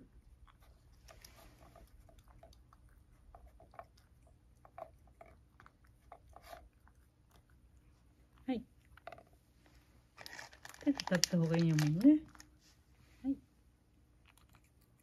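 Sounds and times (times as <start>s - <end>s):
cat crunching treats: 0.3s - 12.6s, 14.1s - 15.0s.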